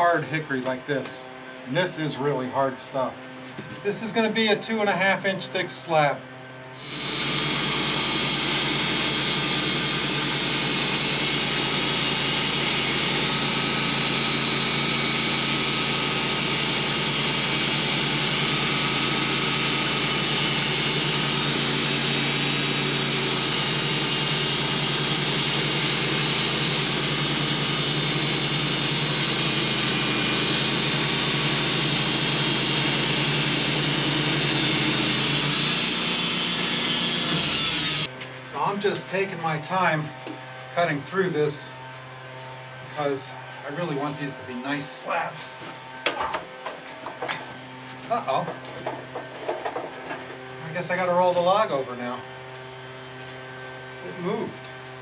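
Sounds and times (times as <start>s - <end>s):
sawmill engine hum: 0.0s - 55.0s.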